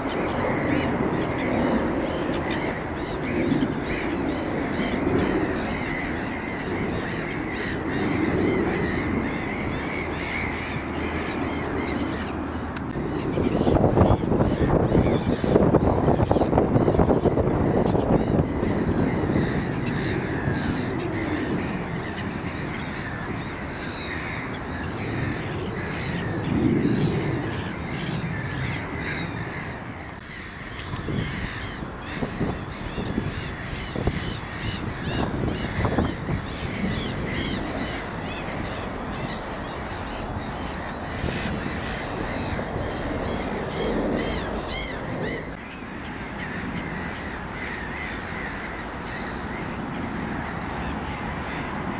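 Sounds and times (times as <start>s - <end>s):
crows cawing: 0.0s - 51.9s
steady low rumble: 0.0s - 51.9s.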